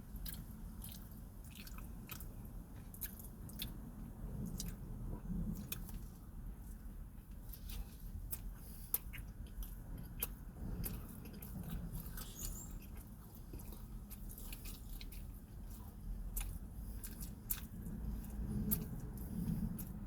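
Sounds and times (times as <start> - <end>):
chewing and biting food: 0.0 - 20.0
low steady rumble: 0.0 - 20.0.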